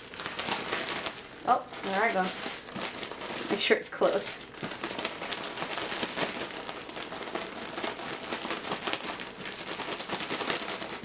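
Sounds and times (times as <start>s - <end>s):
plastic bag crinkling and rustling: 0.0s - 11.0s.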